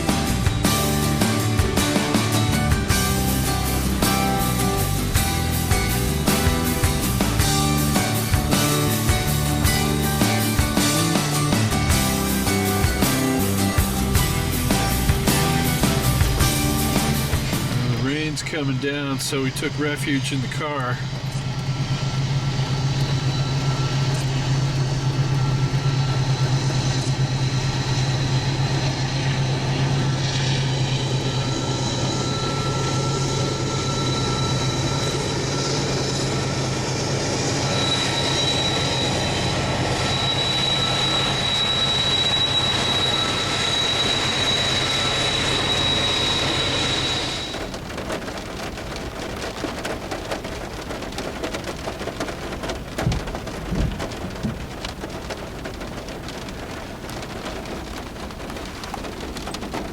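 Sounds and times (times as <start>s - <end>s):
freight train passing: 0.0s - 59.9s
high wheel squeal: 0.0s - 59.9s.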